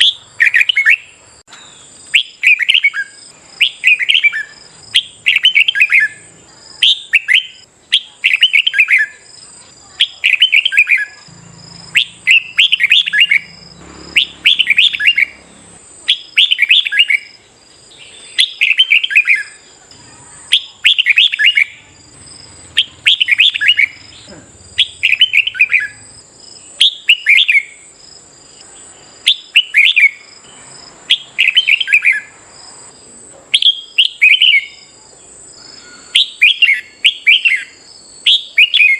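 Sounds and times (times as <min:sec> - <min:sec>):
bird singing warbled phrases: 0:00.0 - 0:38.9.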